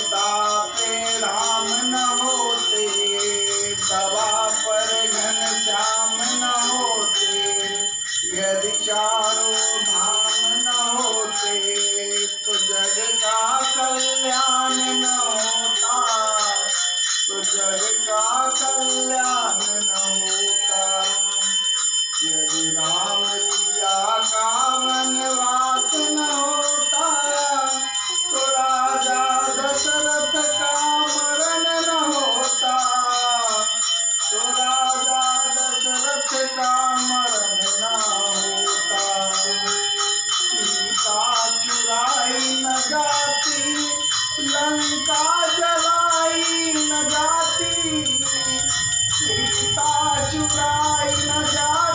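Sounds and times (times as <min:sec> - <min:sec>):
hand cymbals jingling: 0:00.0 - 0:51.9
man singing: 0:00.0 - 0:51.9.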